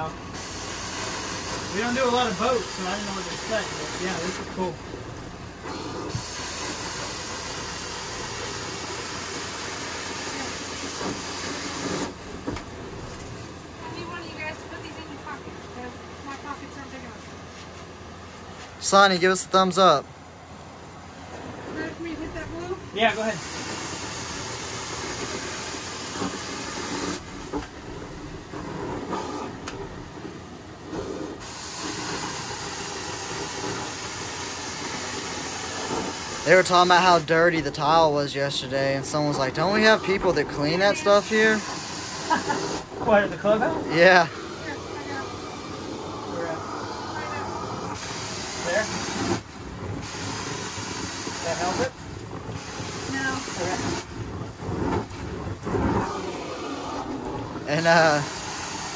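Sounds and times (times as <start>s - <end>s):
carpet extraction wand hissing: 0.0s - 13.9s, 22.4s - 58.9s.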